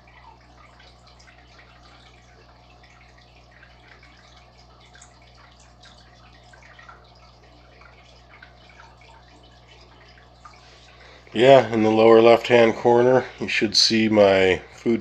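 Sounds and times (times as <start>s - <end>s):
low steady hum: 0.0s - 15.0s
water trickling and bubbling: 0.0s - 15.0s.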